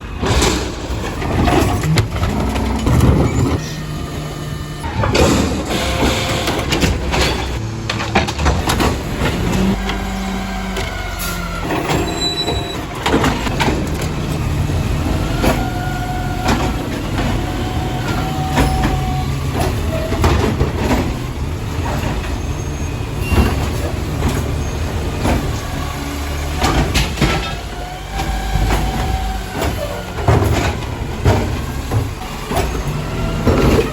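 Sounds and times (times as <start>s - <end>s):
carts banging against hopper: 0.0s - 33.9s
diesel engine running: 0.0s - 33.9s
hydraulic whine: 0.8s - 33.9s.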